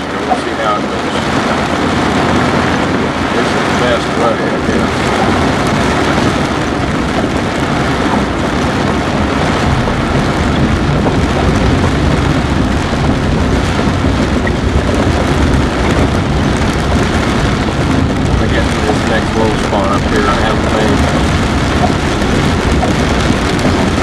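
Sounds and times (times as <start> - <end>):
rain: 0.0 - 24.0
vehicle engine and tyre noise: 0.0 - 24.0.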